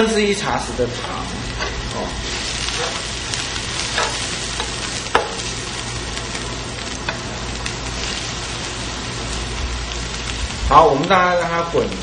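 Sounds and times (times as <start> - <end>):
steady sizzling hiss: 0.0 - 12.0.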